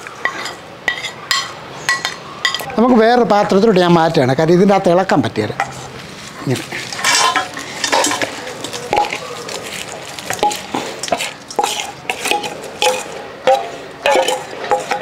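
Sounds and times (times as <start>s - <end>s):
spoon scraping metal bowls: 0.0s - 2.7s, 5.6s - 15.0s.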